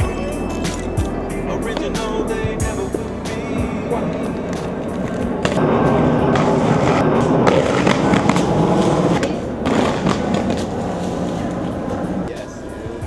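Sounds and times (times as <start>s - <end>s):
inline skates grinding on concrete: 0.4s - 12.3s.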